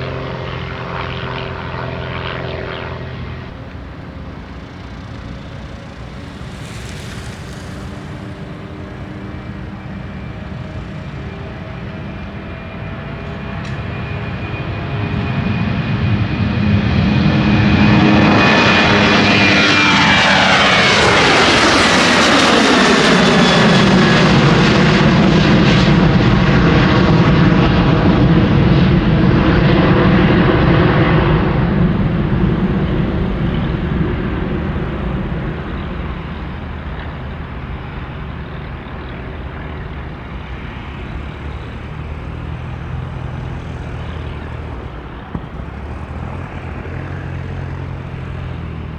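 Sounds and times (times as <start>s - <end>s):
airplane passing close by: 0.0s - 48.9s.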